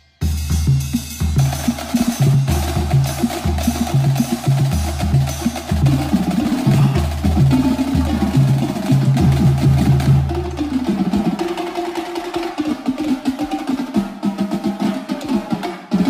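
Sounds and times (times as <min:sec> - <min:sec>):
snare and tenor drum strokes: 0:00.0 - 0:16.0.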